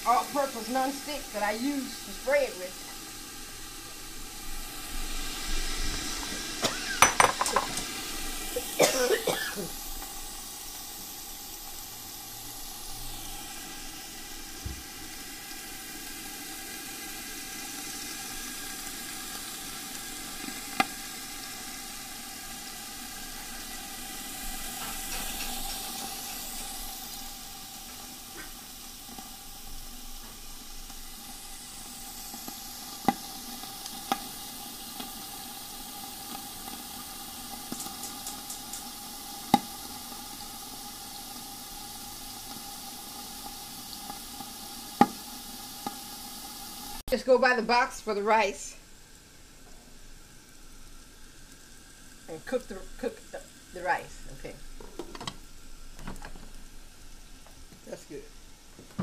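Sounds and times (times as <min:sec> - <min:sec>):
meat sizzling in a grill skillet: 0:00.0 - 0:59.0.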